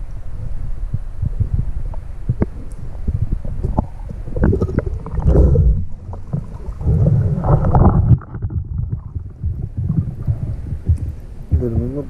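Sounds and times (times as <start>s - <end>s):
muffled underwater sloshing and splashing: 0.0s - 12.0s.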